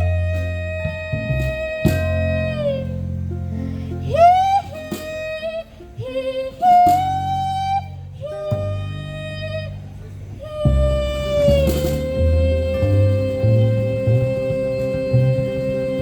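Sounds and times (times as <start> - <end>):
woman yodeling: 0.0 - 3.0, 4.0 - 9.8, 10.4 - 16.0
acoustic string band: 0.0 - 16.0.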